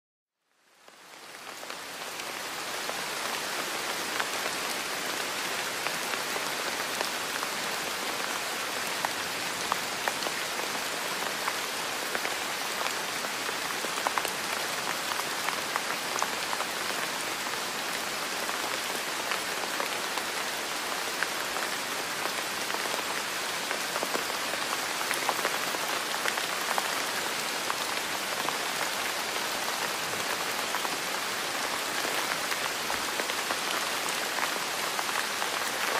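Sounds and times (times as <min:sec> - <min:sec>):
steady rain falling: 0:00.4 - 0:35.9.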